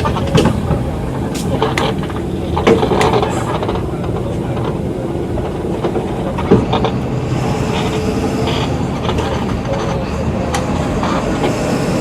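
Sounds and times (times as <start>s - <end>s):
body and chassis rattling: 0.0s - 12.0s
bus engine running: 0.0s - 12.0s.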